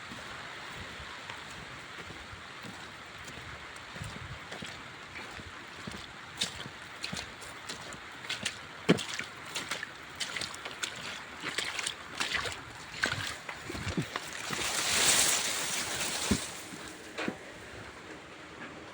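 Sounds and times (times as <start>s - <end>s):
rain falling: 0.1s - 18.0s.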